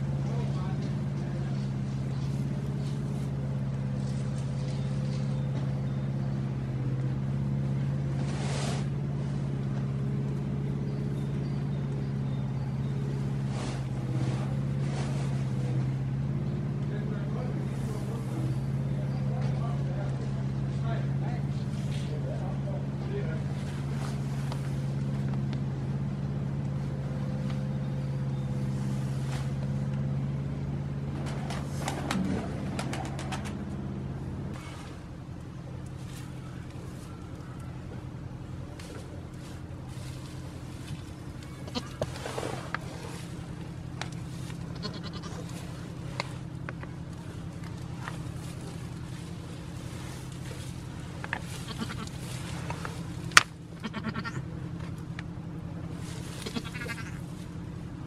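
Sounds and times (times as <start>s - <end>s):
low motor hum: 0.0s - 58.0s.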